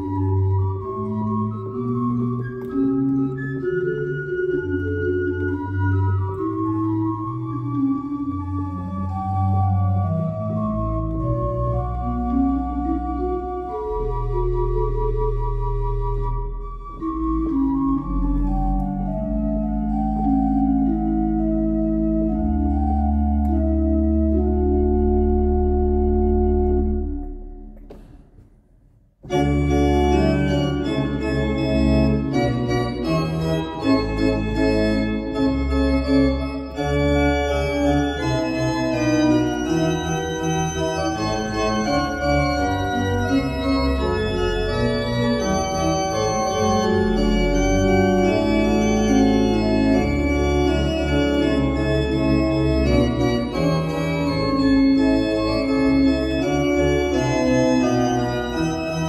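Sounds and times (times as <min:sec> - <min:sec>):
pipe organ playing chords: 0:00.0 - 0:28.2, 0:29.2 - 0:59.0.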